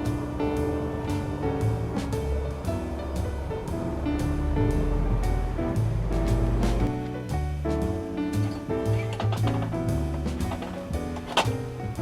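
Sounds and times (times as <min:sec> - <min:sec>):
melodic background music: 0:00.0 - 0:12.0
percussion hits: 0:00.0 - 0:12.0.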